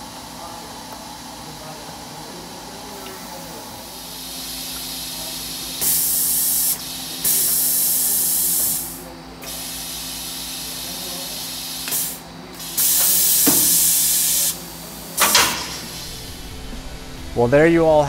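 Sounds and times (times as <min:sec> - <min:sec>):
machine electrical hum: 0:00.0 - 0:18.0
compressed air hissing: 0:03.0 - 0:18.0.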